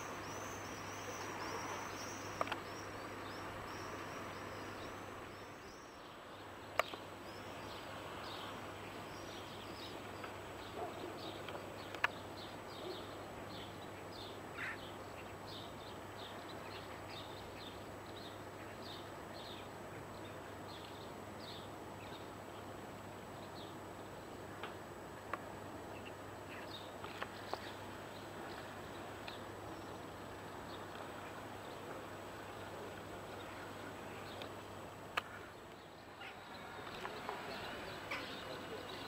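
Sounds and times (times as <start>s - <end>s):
outdoor background: 0.0s - 39.0s
small birds chirping: 0.0s - 39.0s.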